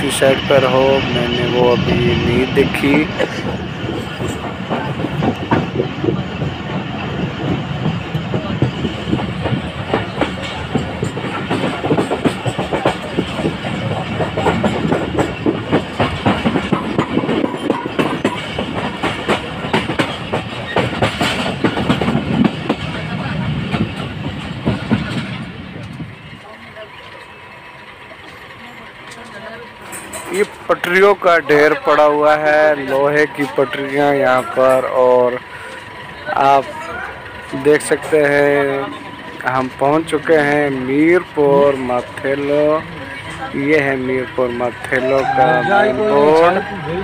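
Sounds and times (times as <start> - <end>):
train ride rumble: 0.0 - 47.0
wheels clattering on rails: 0.0 - 47.0.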